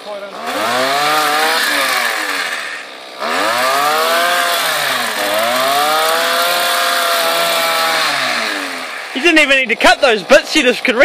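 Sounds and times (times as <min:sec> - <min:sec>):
chainsaw cutting branches: 0:00.0 - 0:11.0.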